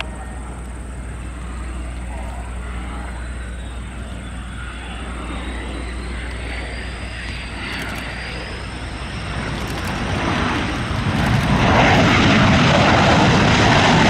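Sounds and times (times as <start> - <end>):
faint high whine: 0.0 - 14.0
jet fighter engine noise: 0.0 - 14.0.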